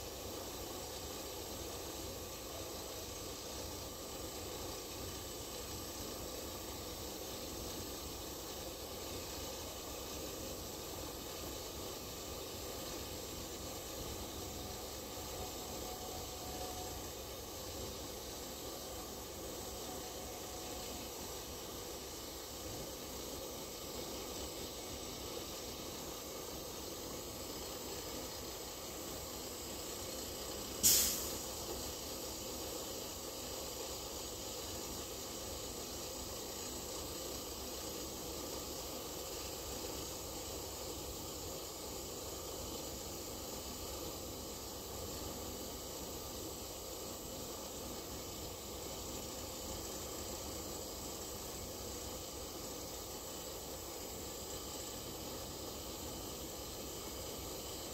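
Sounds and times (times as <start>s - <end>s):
pneumatic discharge hissing: 0.1s - 57.9s.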